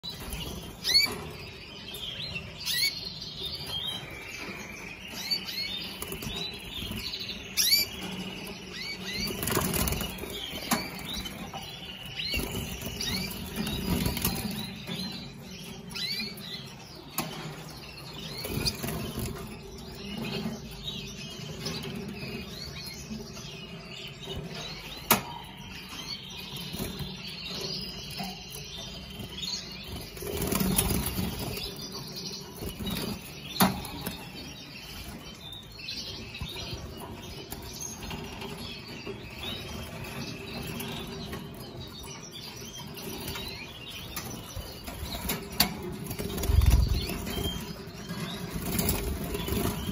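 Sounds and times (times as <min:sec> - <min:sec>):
canaries fluttering: 0:00.0 - 0:49.9.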